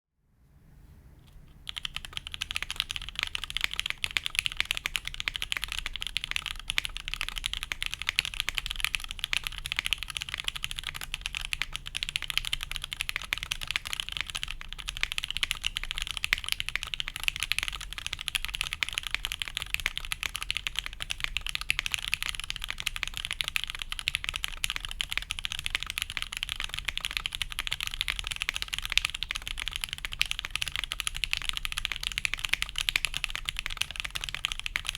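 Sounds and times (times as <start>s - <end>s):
fast typing on mechanical keyboard: 1.6s - 34.9s.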